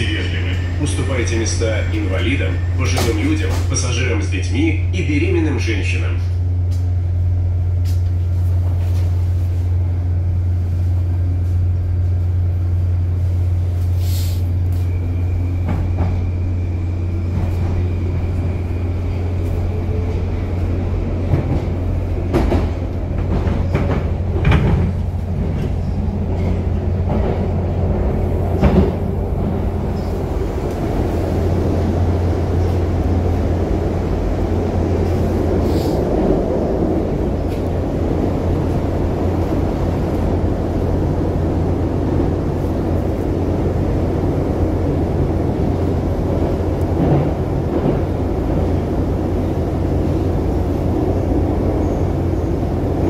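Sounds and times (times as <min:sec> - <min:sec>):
train low hum: 0:00.0 - 0:53.0
wheel and rail rumble: 0:00.0 - 0:53.0.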